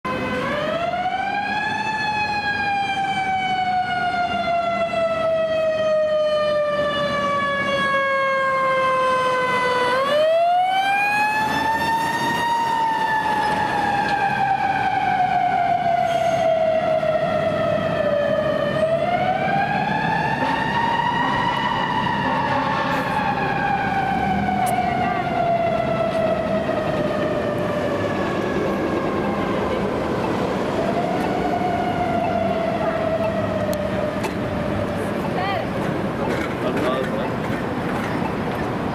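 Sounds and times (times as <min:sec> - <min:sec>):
traffic noise: 0:00.0 - 0:38.9
fire truck siren wailing: 0:00.1 - 0:38.9.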